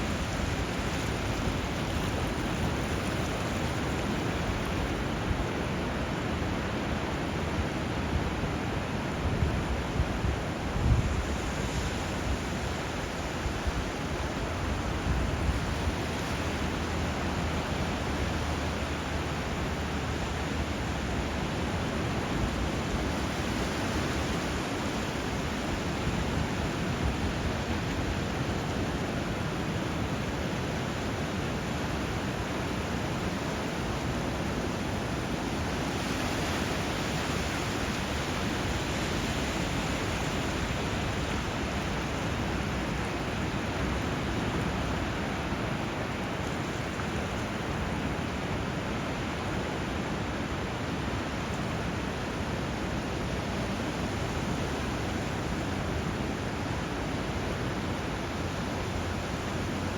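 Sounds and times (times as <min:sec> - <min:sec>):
river water meeting surf: 0:00.0 - 0:59.9.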